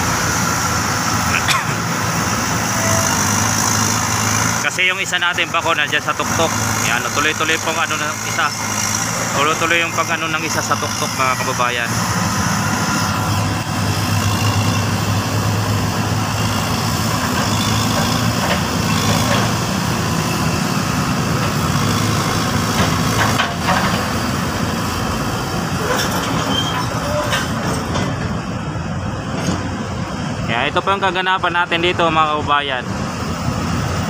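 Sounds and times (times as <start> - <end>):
excavator diesel engines: 0.0 - 34.0.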